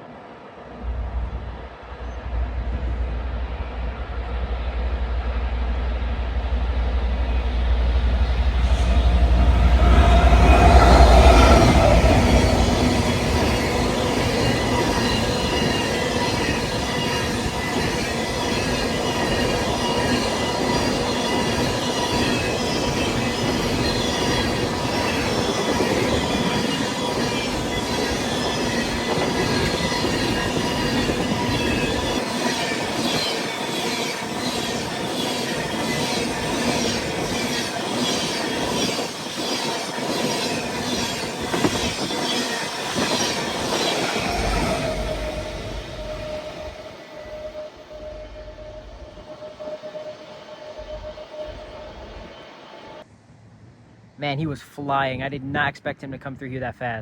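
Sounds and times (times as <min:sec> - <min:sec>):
train wheels rolling on rail: 0:00.0 - 0:53.1
high-pitched wheel squeal: 0:07.2 - 0:53.0.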